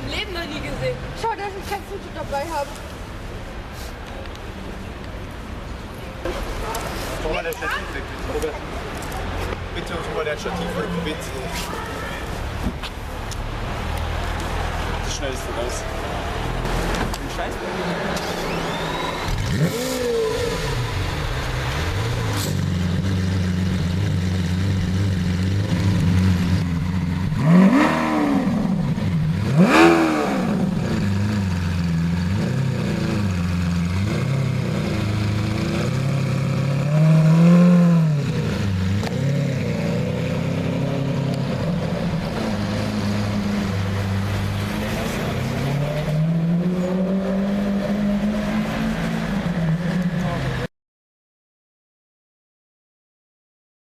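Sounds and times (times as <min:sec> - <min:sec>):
car engine idling and revving: 0:00.0 - 0:50.7.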